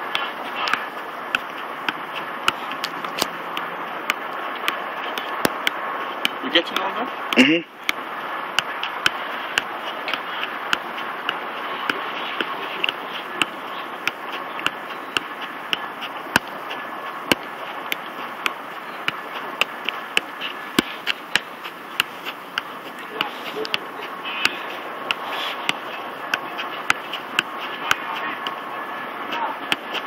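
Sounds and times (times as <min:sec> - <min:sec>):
football thumps: 0:00.1 - 0:28.6, 0:29.6 - 0:30.0.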